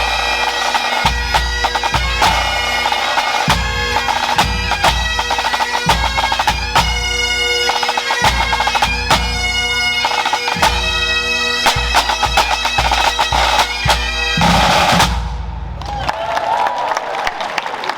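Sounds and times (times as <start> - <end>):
bagpipes melody with drones: 0.0 - 15.2
snare and bass drums: 0.0 - 16.3.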